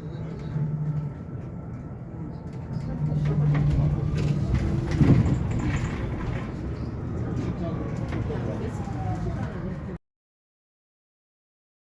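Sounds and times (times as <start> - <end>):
bus cabin hum and road rumble: 0.0 - 10.0.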